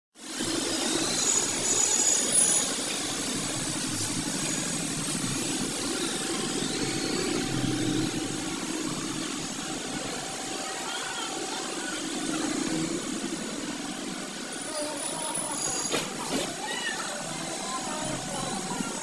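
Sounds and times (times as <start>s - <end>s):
low hum: 0.3s - 16.3s.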